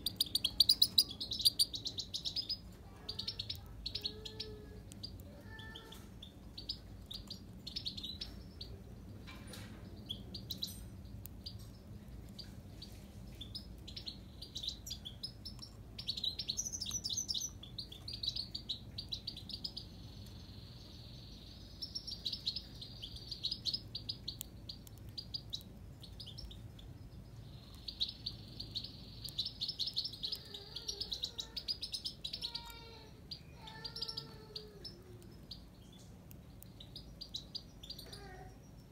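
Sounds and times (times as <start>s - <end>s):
goldfinch twittering and trilling: 0.0s - 8.8s, 13.4s - 38.9s.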